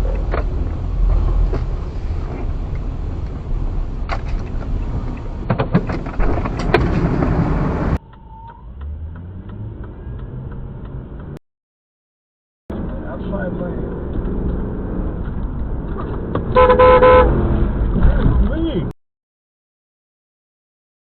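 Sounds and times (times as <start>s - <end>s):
car road and engine noise: 0.0s - 11.4s, 12.7s - 18.9s
low vehicle hum: 0.0s - 11.4s, 12.7s - 18.9s.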